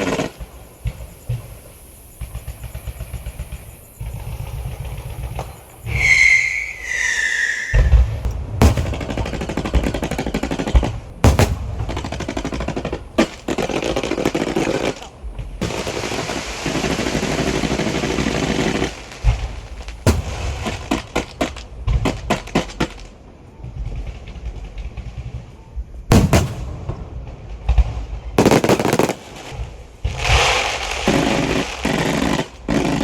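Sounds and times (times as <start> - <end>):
loud firecracker bangs: 0.0 - 25.3, 26.1 - 33.0
firecrackers crackling: 0.0 - 33.0.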